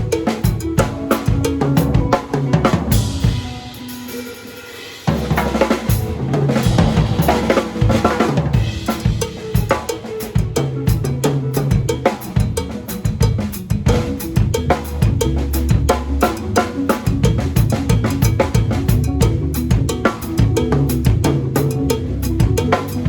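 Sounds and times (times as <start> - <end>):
drum kit groove: 0.0 - 23.0.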